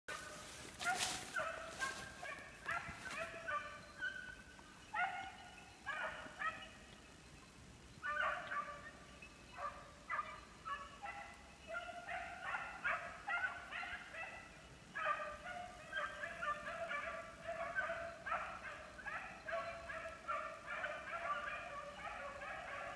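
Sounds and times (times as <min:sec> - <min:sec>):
hounds baying: 0:00.1 - 0:07.1, 0:07.9 - 0:22.9.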